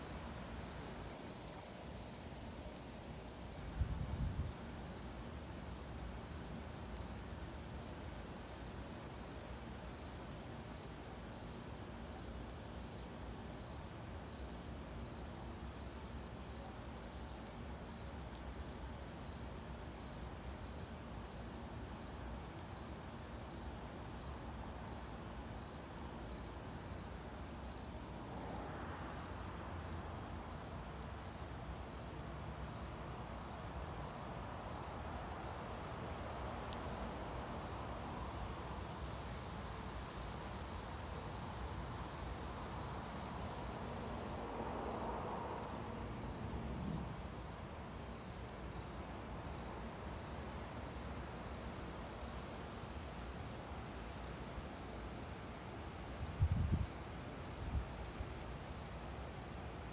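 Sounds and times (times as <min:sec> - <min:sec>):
crickets chirping: 0:00.0 - 0:59.9
high insect trill: 0:00.0 - 0:59.9
soft low background hiss: 0:00.0 - 0:59.9.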